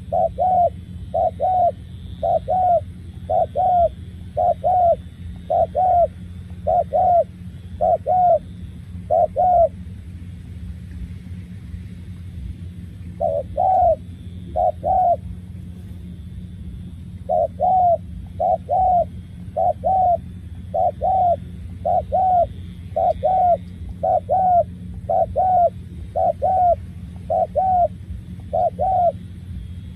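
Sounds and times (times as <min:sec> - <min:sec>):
dove cooing: 0:00.0 - 0:10.0, 0:12.7 - 0:15.7, 0:16.4 - 0:29.9
steady low hum: 0:00.0 - 0:29.9.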